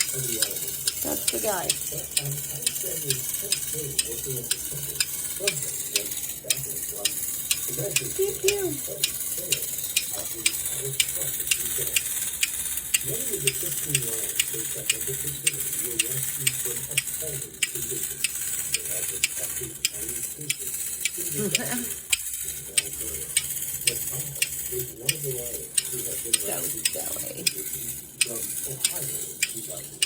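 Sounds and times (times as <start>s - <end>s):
clockwork toy whirring and rattling: 0.0s - 30.0s
sharp mechanical clicks: 0.0s - 30.0s.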